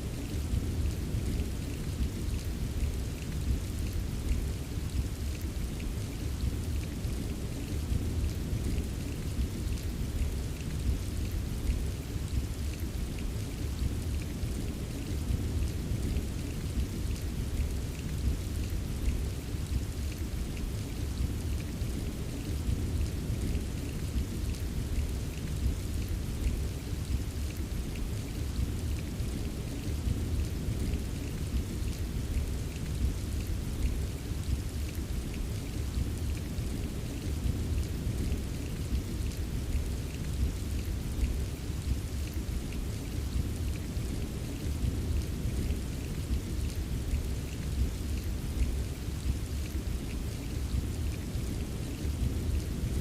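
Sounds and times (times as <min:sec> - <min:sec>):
rain drops tapping: 0:00.0 - 0:53.0.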